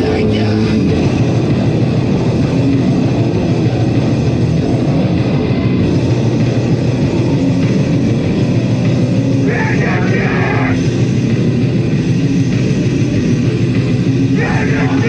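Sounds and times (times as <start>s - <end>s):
electric guitar: 0.0s - 15.0s
live heavy metal band: 0.0s - 15.0s.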